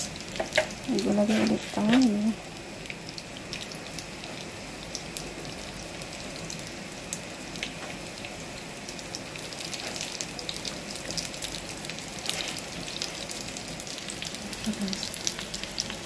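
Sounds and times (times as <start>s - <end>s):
food sizzling in oil: 0.0s - 16.0s
oil popping and crackling: 0.0s - 16.0s.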